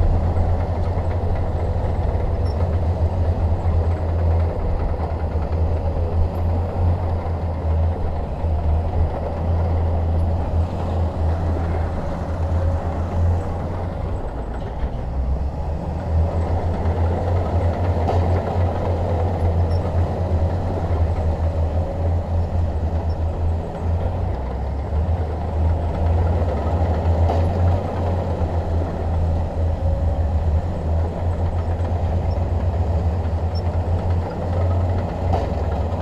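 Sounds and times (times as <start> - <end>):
bulldozer diesel engine rumbling: 0.0 - 36.0.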